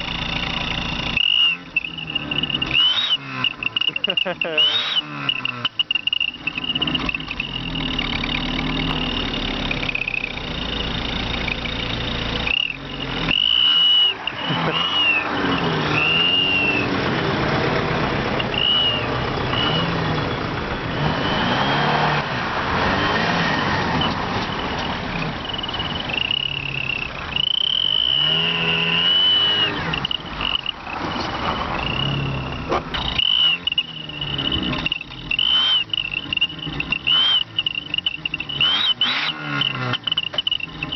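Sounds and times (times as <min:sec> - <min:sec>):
car engine revving: 0:00.0 - 0:40.9
exhaust whistle: 0:00.0 - 0:40.9.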